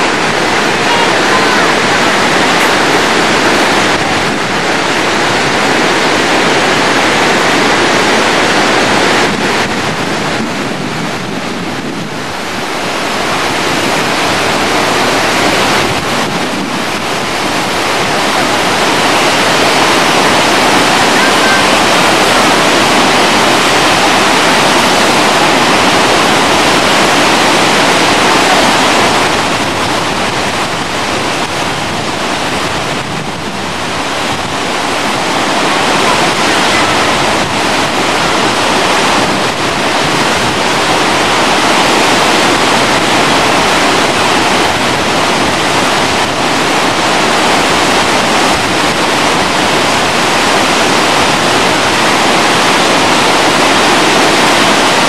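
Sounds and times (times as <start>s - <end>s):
fast river rushing: 0.0s - 55.0s.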